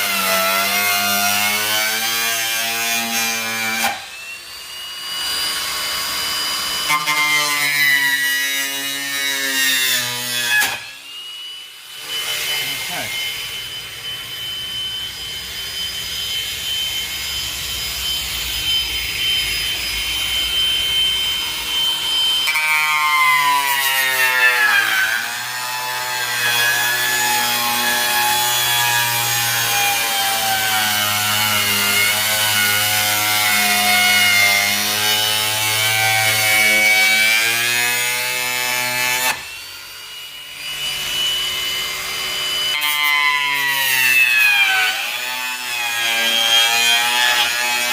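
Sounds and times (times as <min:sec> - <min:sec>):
angle grinder cutting plastic: 0:00.0 - 0:47.9.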